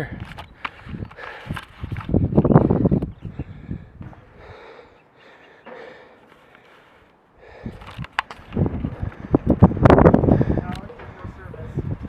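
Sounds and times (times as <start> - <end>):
person breathing hard: 0.0 - 1.8, 2.6 - 11.9.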